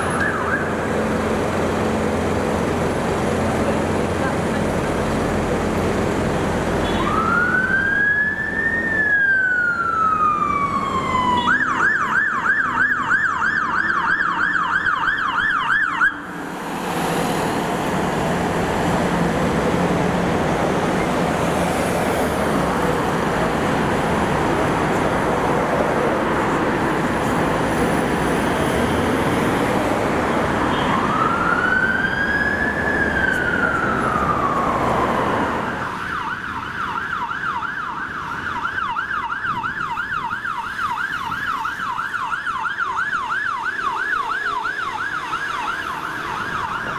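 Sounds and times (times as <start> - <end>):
engine and road noise: 0.0 - 46.9
fire engine siren: 0.0 - 46.9.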